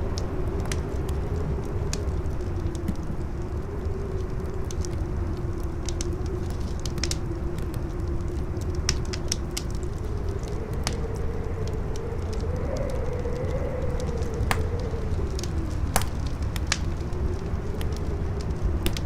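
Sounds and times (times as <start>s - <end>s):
campfire crackling: 0.0s - 19.0s
howling wind: 0.0s - 19.0s
low wind rumble: 0.0s - 19.0s.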